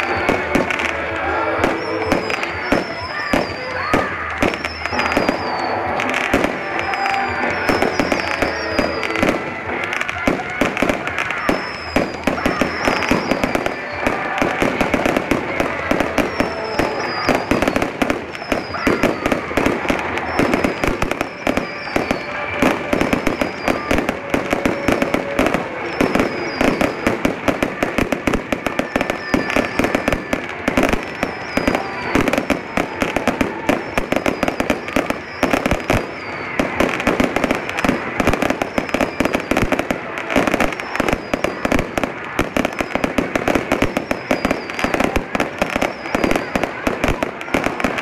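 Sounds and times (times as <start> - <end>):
falling firework whistle: 0.0 - 48.0
fireworks bangs and crackling: 0.0 - 48.0.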